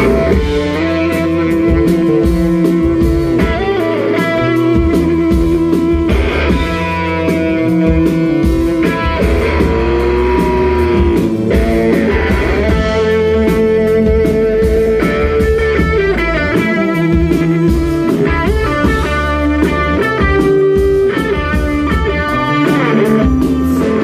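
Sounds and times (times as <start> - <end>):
drum kit: 0.0 - 24.0
electric guitar bending notes: 0.0 - 24.0.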